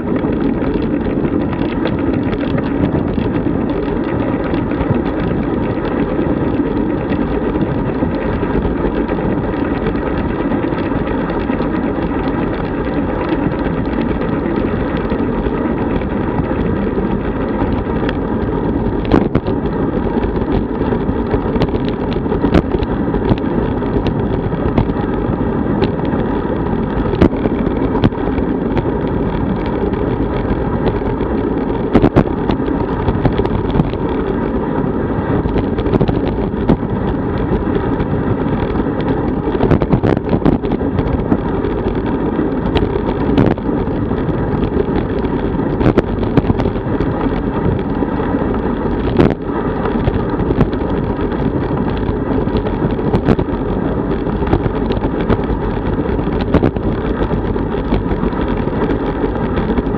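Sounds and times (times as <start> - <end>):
sharp clicks and knocks: 0.0 - 34.6, 35.3 - 59.9
road rumble: 0.0 - 59.9
wind rush on microphone: 0.0 - 59.9.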